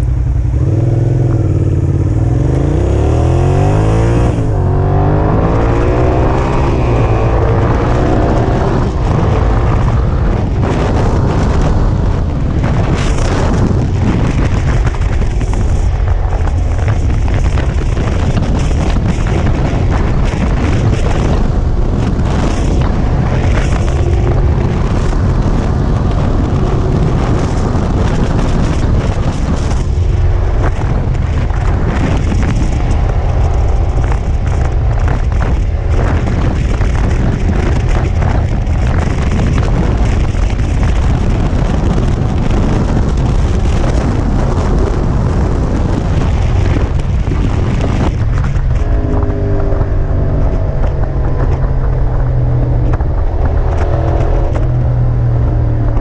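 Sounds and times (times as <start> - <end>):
motorcycle engine: 0.0 - 56.0
road noise: 0.0 - 56.0
wind buffeting: 0.0 - 56.0.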